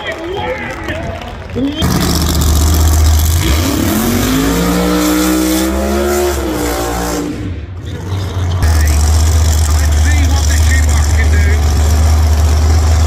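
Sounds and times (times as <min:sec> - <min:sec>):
drag car engine revving: 0:01.8 - 0:13.0.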